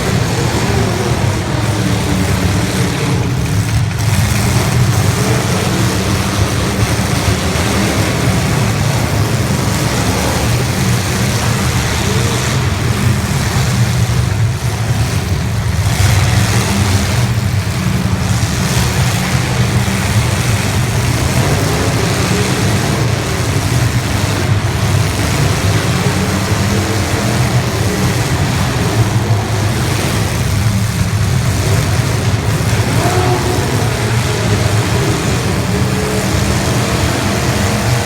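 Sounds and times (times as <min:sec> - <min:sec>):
car engines rumbling: 0:00.0 - 0:38.0.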